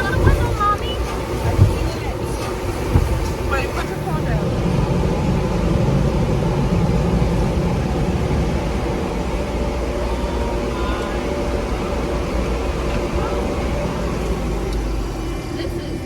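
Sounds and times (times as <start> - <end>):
car wash machinery running: 0.0 - 16.0.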